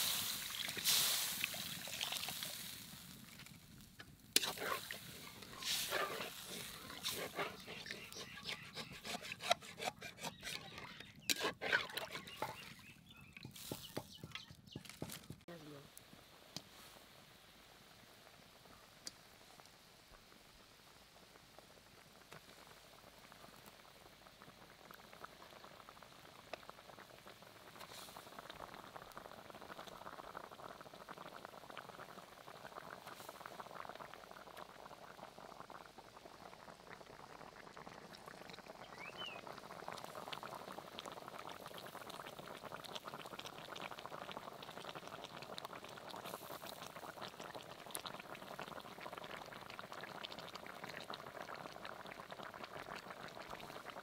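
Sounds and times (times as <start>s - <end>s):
curry boiling in a pot: 0.0s - 54.0s.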